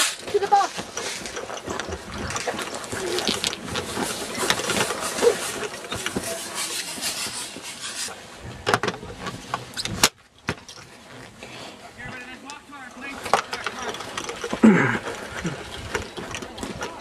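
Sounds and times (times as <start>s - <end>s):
clothing and gear rubbing: 0.0s - 10.0s, 10.8s - 16.2s.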